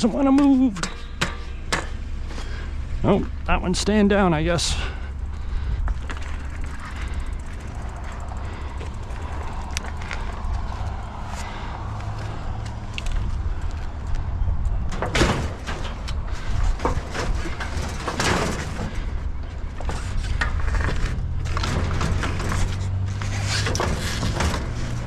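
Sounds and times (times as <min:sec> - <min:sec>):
bicycles clanking and rattling: 0:00.0 - 0:25.0
idling vehicle hum: 0:00.0 - 0:25.0.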